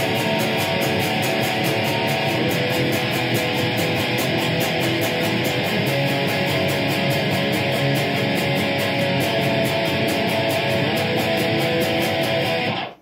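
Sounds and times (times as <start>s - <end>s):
distorted electric guitar strumming: 0.0s - 13.0s.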